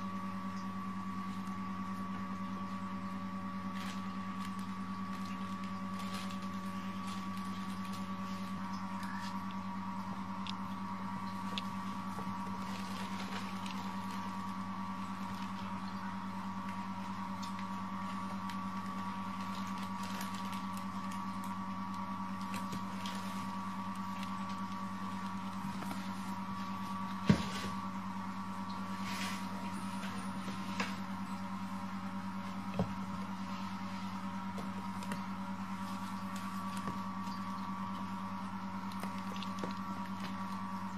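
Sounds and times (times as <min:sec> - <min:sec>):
electrical hum: 0:00.0 - 0:40.9
kittens scampering on floor: 0:02.7 - 0:40.9.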